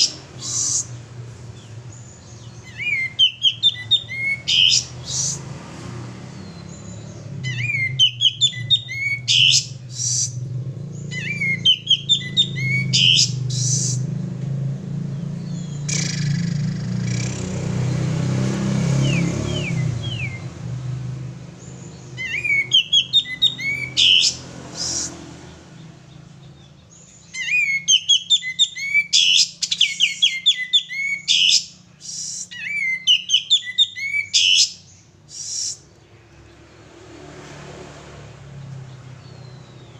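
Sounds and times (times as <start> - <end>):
bird chirping: 0.0 - 37.3, 38.1 - 39.9.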